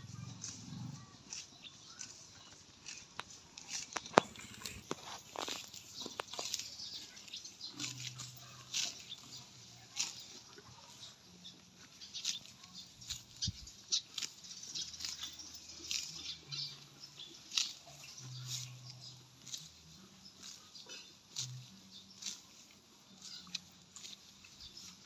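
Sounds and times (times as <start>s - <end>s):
cow tearing grass: 0.0s - 25.0s.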